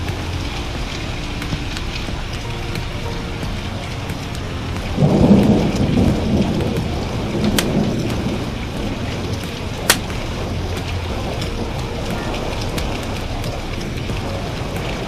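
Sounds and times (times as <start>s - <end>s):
heavy rain: 0.0s - 15.0s
thunder clap rumbling: 0.0s - 15.0s
wood fire popping: 0.0s - 15.0s.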